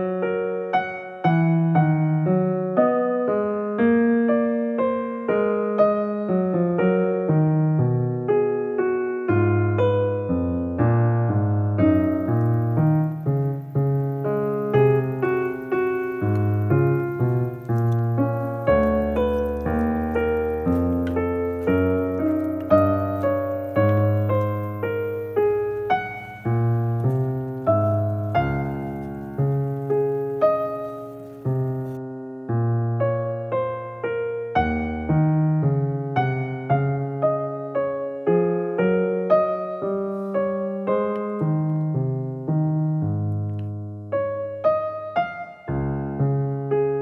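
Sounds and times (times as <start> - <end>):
slow gentle solo piano: 0.0 - 47.0.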